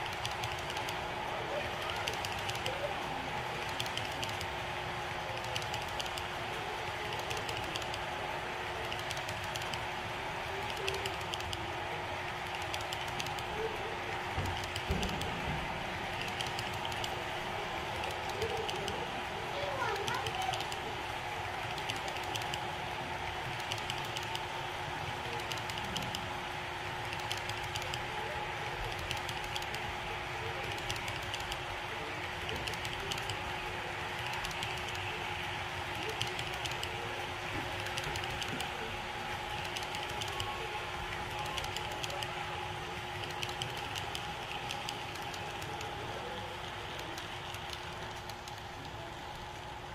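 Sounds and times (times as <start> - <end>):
model train wheels clicking: 0.0 - 49.9.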